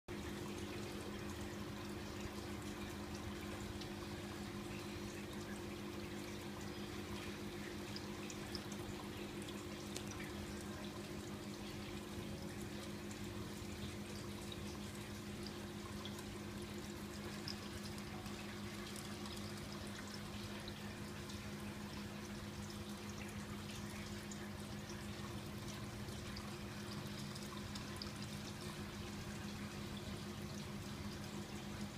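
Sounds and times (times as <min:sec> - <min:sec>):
pump humming: 0:00.1 - 0:31.9
water trickling and bubbling: 0:00.1 - 0:31.9.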